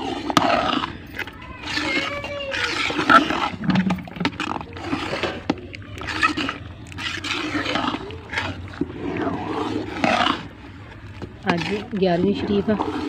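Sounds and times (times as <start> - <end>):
metal ladle scraping a pot: 0.0 - 13.0.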